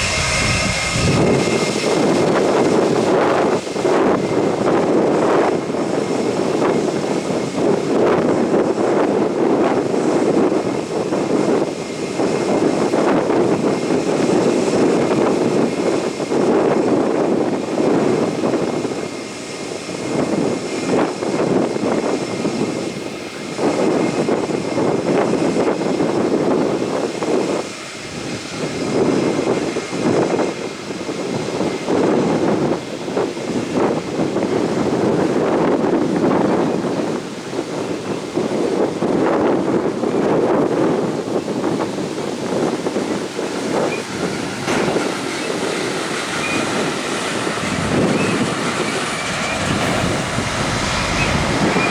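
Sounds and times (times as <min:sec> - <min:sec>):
jet engines running: 0:00.0 - 0:39.2, 0:41.0 - 0:51.9
wind buffeting microphone: 0:00.0 - 0:51.9.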